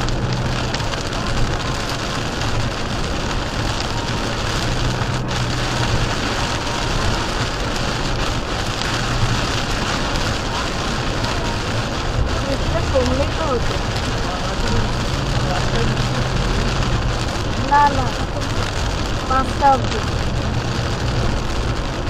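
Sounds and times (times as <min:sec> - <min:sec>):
heavy rain on car windshield: 0:00.0 - 0:22.0
tyre spray on wet road: 0:00.0 - 0:22.0.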